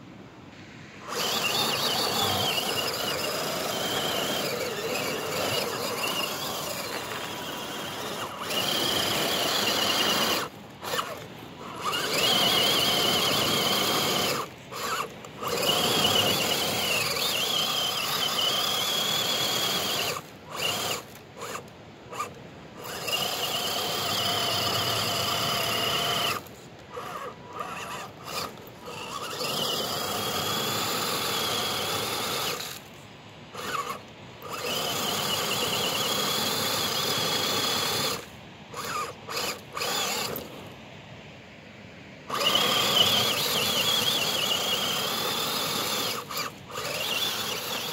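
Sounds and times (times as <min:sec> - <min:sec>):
electric motor whining: 0:01.0 - 0:32.9, 0:33.5 - 0:40.7, 0:42.3 - 0:47.9.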